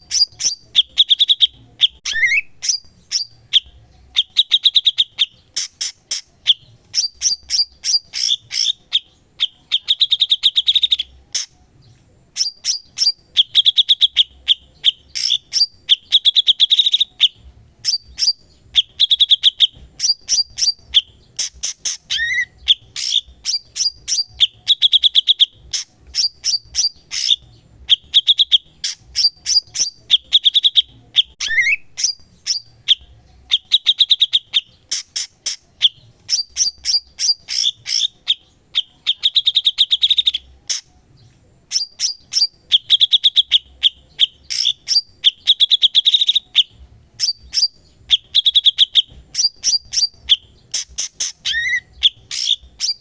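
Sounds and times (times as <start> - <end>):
songbird singing rapid phrases: 0.0 - 53.0.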